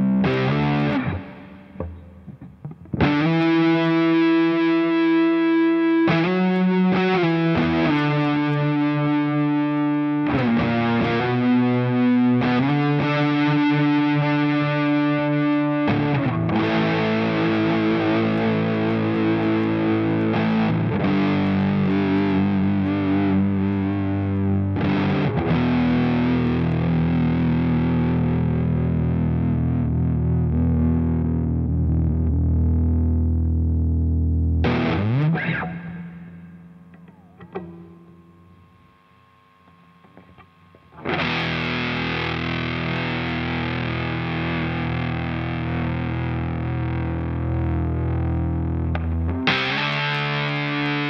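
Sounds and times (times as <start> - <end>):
fuzzed electric guitar: 0.0 - 51.0.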